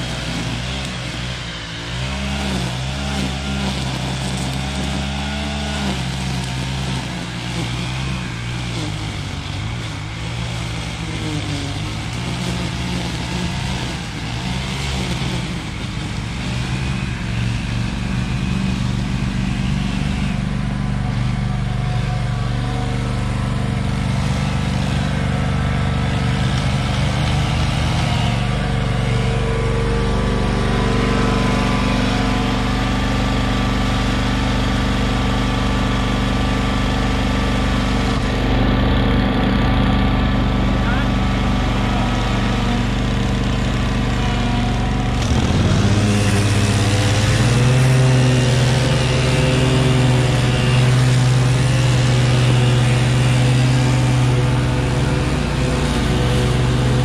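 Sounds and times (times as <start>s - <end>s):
mower engine idling: 0.0s - 57.0s
string trimmer revving: 0.0s - 57.0s.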